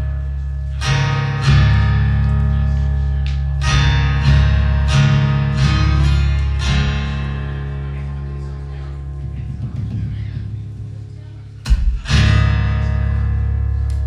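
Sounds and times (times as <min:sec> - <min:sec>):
acoustic guitar chords: 0:00.0 - 0:14.0
deep guitar bass notes: 0:00.0 - 0:14.0.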